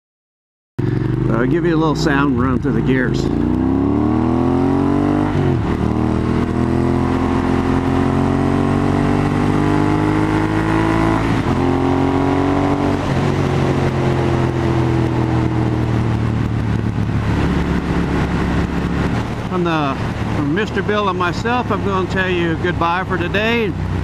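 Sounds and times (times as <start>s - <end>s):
motorcycle accelerating: 0.8s - 24.0s.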